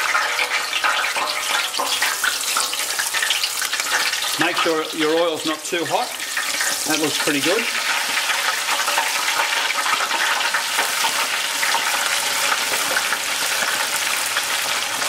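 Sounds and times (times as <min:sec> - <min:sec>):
hot oil bubbling and sizzling: 0:00.0 - 0:15.0.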